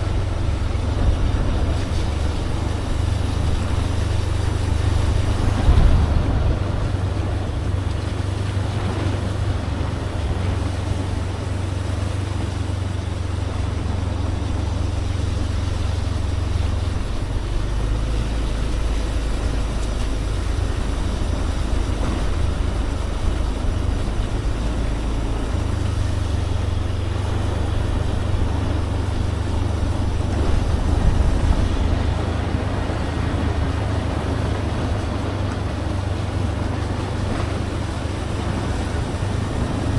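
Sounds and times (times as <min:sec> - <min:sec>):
motorbike engine and wind rumble: 0:00.0 - 0:39.9
road noise hiss: 0:00.0 - 0:39.9.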